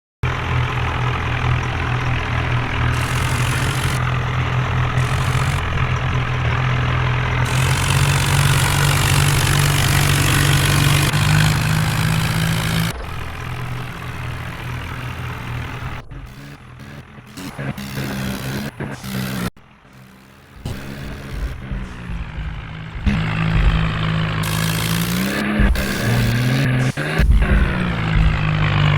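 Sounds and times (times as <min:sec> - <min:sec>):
tractor engine running: 0:00.2 - 0:28.9.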